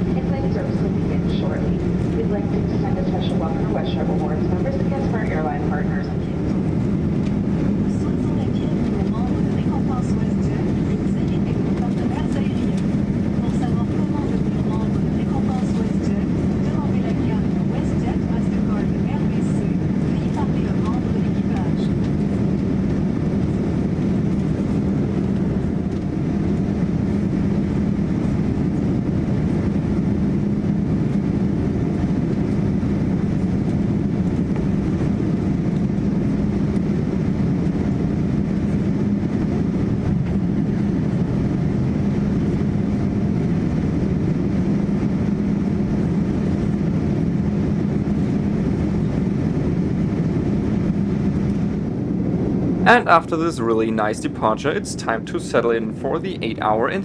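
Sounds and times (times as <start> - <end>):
aircraft cabin engine noise: 0.0 - 57.0
constant low hum: 0.0 - 57.0.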